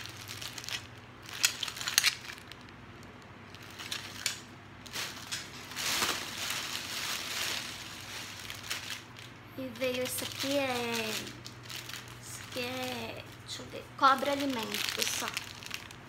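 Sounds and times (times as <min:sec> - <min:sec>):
plastic packaging clicks: 0:00.0 - 0:13.0, 0:14.1 - 0:16.0
plastic bag crinkling: 0:00.0 - 0:16.0.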